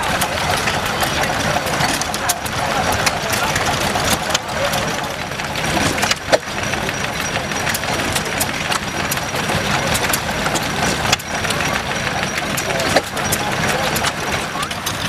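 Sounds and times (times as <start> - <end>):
sharp engine clicks: 0.0 - 15.0
stationary engine idling: 0.0 - 15.0.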